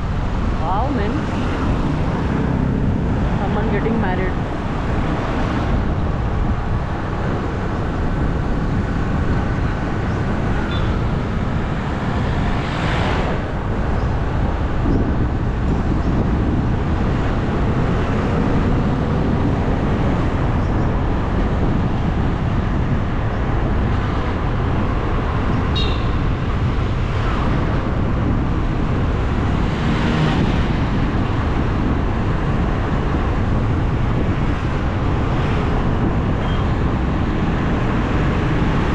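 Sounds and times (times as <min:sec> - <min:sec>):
road noise rumble: 0:00.0 - 0:38.9
vehicles whooshing past: 0:00.0 - 0:38.9
wind buffeting microphone: 0:00.0 - 0:38.9.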